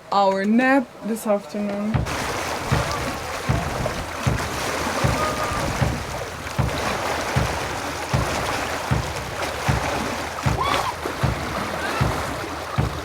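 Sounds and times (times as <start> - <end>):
sea noise: 0.0 - 13.0
repeating low thump: 1.9 - 13.0
wind noise: 1.9 - 13.0.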